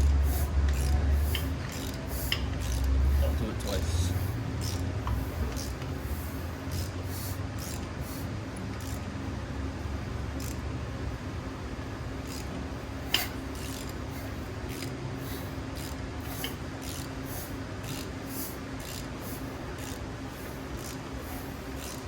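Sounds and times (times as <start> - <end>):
crankshaft metallic rasps and clicks: 0.0 - 9.4, 10.2 - 11.0, 12.1 - 22.0
steady low hum: 0.0 - 22.0.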